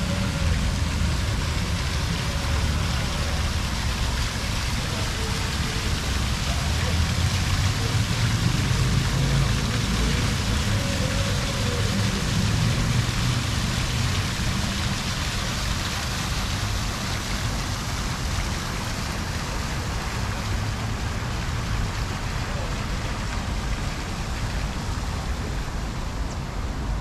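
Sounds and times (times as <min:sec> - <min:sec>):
low rumble of traffic: 0:00.0 - 0:27.0
steady street hiss: 0:00.0 - 0:27.0.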